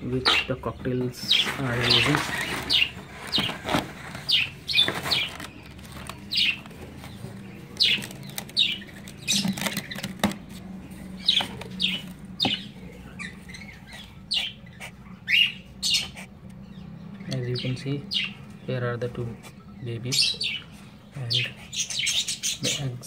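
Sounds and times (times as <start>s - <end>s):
parrots chirping: 0.0s - 23.0s.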